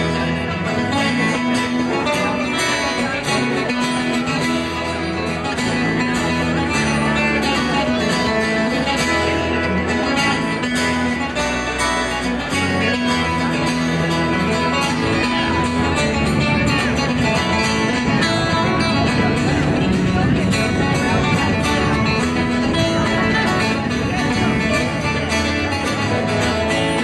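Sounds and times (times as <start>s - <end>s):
acoustic guitars: 0.0s - 27.0s
electric bass: 0.0s - 27.0s
fiddle melody: 0.0s - 27.0s.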